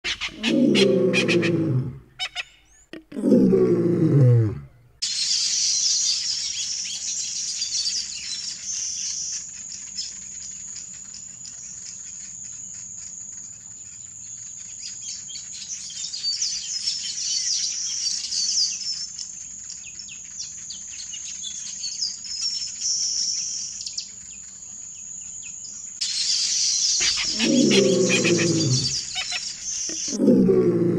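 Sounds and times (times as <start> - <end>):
birds chirping: 0.0 - 4.8, 5.8 - 30.9.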